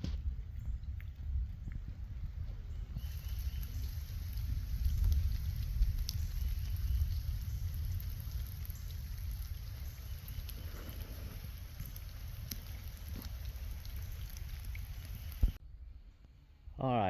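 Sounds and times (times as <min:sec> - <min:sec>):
wind buffeting microphone: 0:00.0 - 0:15.6
rain falling: 0:00.4 - 0:15.6.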